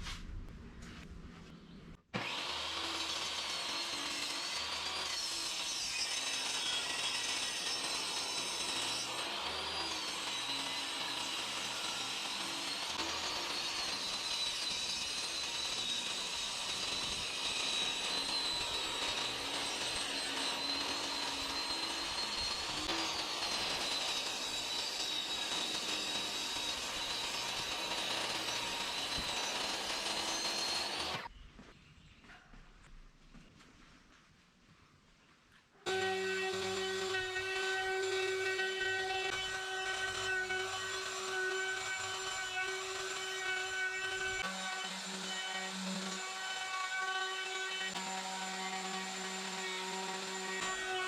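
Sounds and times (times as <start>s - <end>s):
power tool cutting wood: 2.1s - 31.3s, 35.9s - 51.0s.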